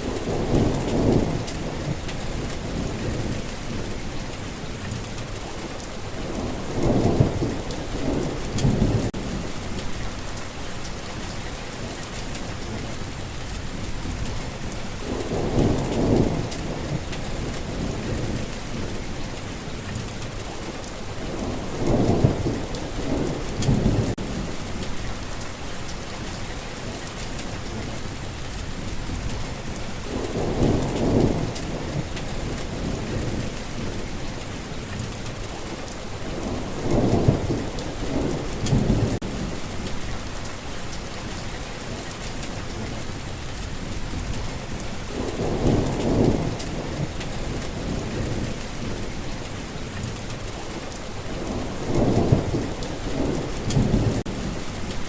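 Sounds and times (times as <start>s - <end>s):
low rumbles of thunder: 0.0s - 55.0s
steady rain falling: 0.0s - 55.0s.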